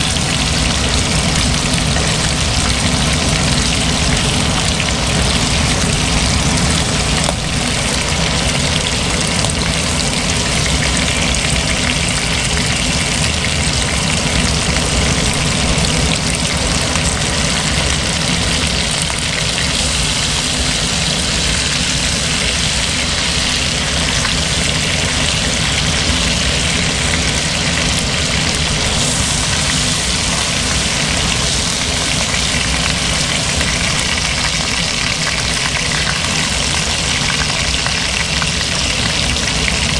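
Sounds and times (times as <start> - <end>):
steady low hum: 0.0 - 36.4
chicken wings sizzling in oil: 0.0 - 39.9.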